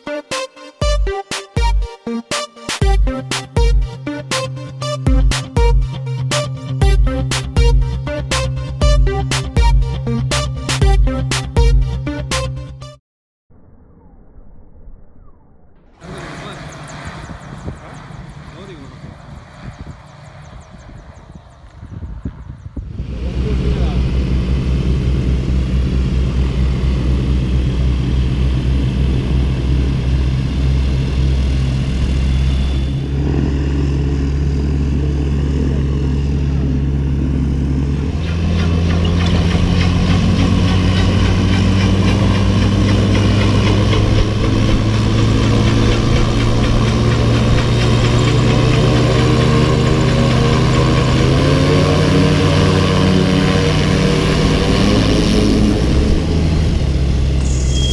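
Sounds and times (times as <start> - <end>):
aircraft engine and propeller running: 0.0 - 12.9, 16.0 - 57.9.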